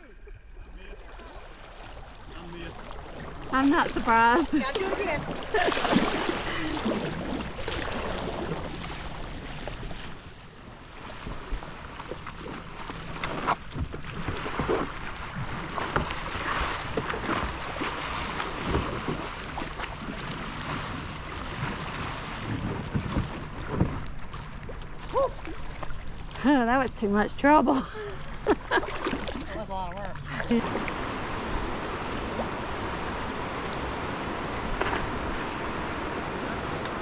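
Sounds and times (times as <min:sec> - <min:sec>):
short water splashes: 0:00.7 - 0:10.3, 0:10.9 - 0:27.2, 0:28.0 - 0:37.0.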